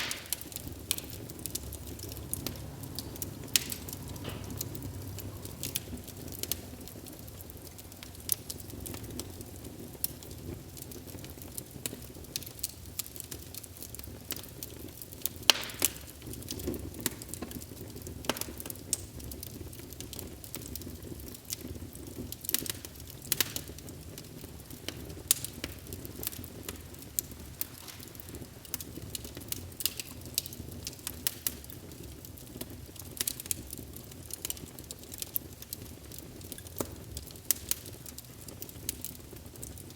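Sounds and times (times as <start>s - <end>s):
fire burning in fireplace: 0.0s - 39.9s
logs popping and crackling: 0.0s - 39.9s.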